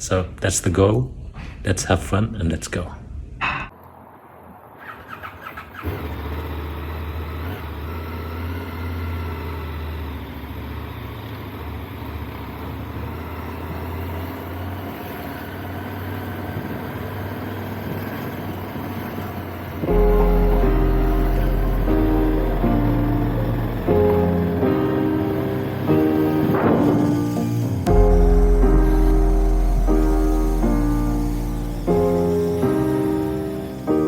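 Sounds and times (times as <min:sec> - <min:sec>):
motorcycle engine starting: 0:04.8 - 0:34.0.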